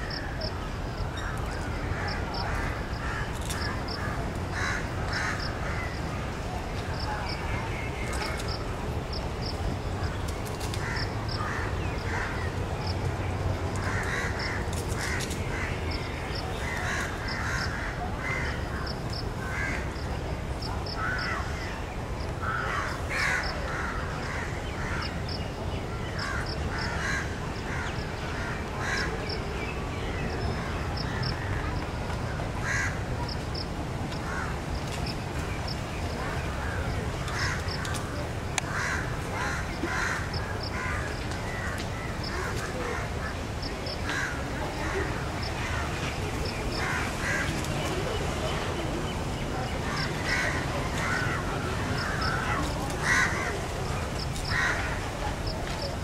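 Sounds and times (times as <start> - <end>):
birds calling harshly: 0.0 - 9.3, 10.0 - 13.0, 13.7 - 56.0.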